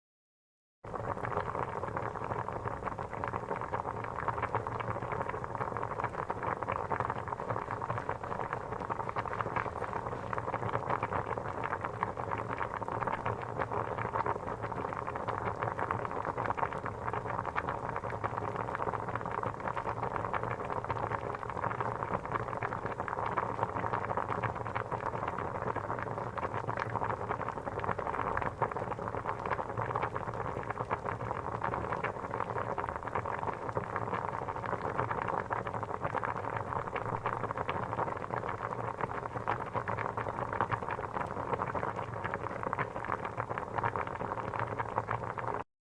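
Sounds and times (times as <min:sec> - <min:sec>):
water boiling and bubbling: 0:00.9 - 0:45.7.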